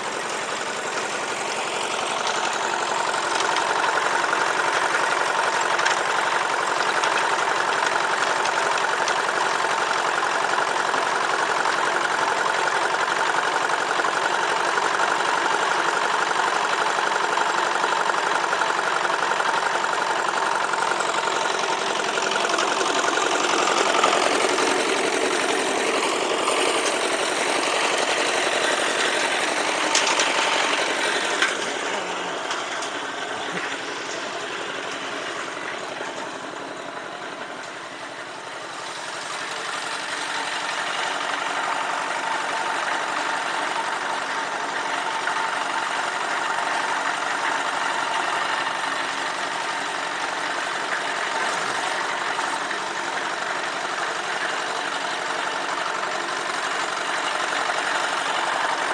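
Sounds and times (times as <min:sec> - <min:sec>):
small diesel engine running: 0:00.0 - 0:58.9.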